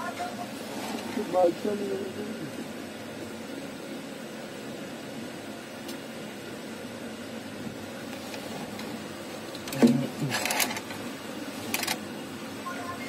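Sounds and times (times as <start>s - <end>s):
train running hum: 0.0s - 13.0s.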